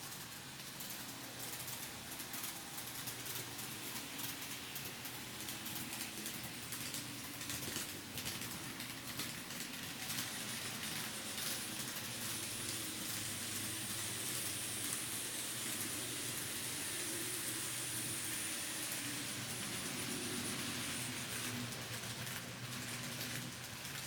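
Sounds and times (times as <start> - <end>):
model train wheels rattling: 0.1 - 24.0.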